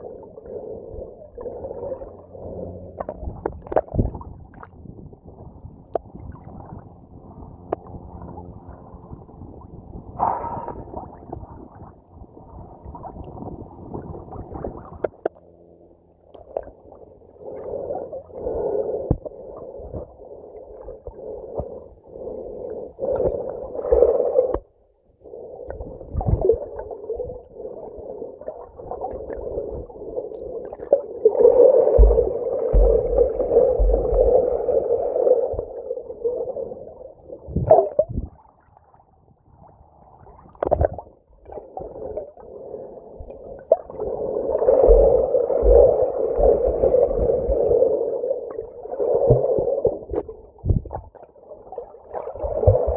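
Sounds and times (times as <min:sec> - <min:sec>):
muffled water sloshing and gurgling: 0:00.0 - 0:52.9.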